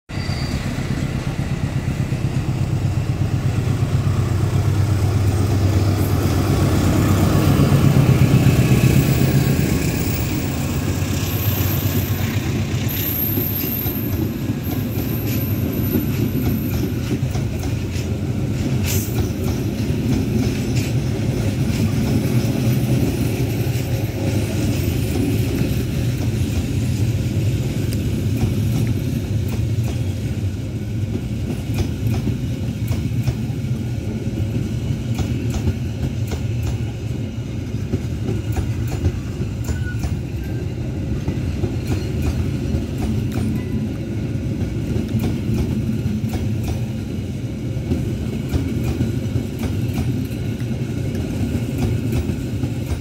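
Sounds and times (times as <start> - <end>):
diesel locomotive engine: 0.1 - 53.0
train wheels clattering on rails: 0.4 - 53.0.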